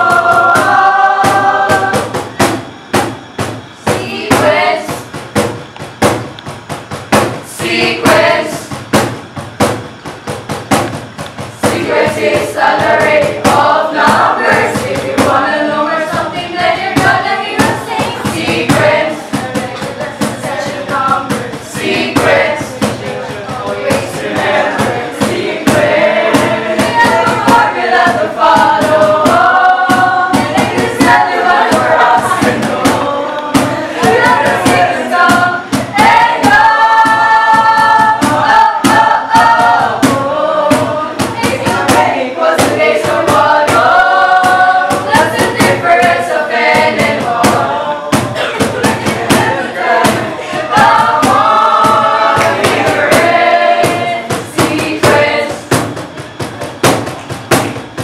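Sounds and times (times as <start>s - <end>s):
voices singing a jingle in unison: 0.0s - 56.5s
backing music with steady beat: 0.0s - 58.0s.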